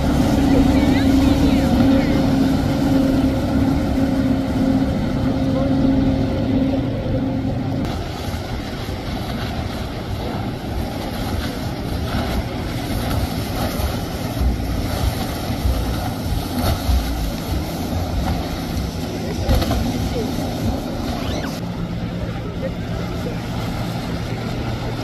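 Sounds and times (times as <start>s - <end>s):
wind on microphone: 0.0s - 21.6s
motorboat engines running: 0.0s - 25.0s.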